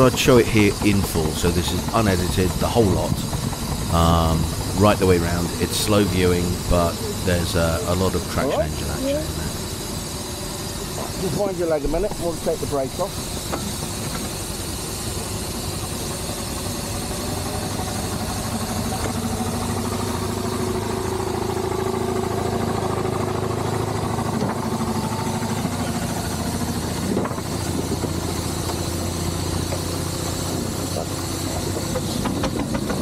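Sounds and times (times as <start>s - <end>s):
steam traction engine running: 0.0s - 33.0s.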